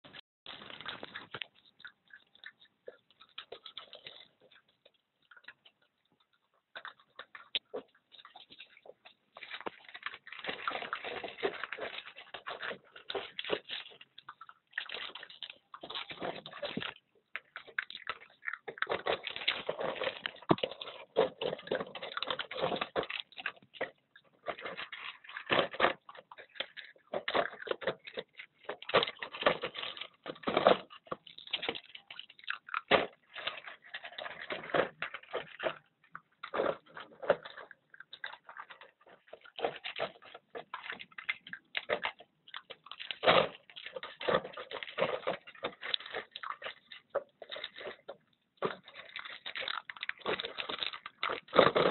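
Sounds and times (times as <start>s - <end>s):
puppies chewing from a bowl: 0.1s - 51.9s.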